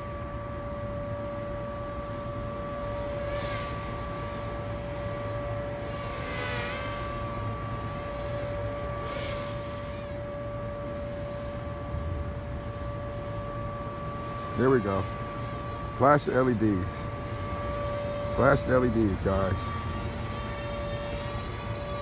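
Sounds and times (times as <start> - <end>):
toy drone propellers buzzing: 0.0 - 22.0.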